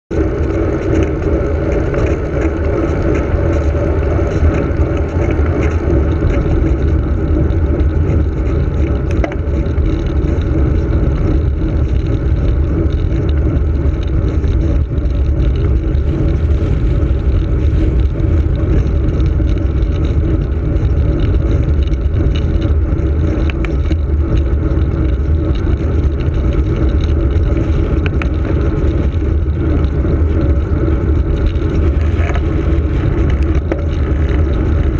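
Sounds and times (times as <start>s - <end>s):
tyres humming on tarmac: 0.1s - 34.9s
wind buffeting microphone: 0.1s - 34.9s.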